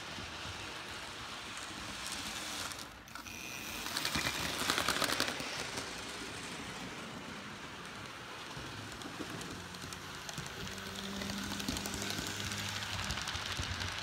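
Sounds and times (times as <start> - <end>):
model train rolling: 0.0 - 14.0
wheels clicking over rail joints: 0.4 - 14.0.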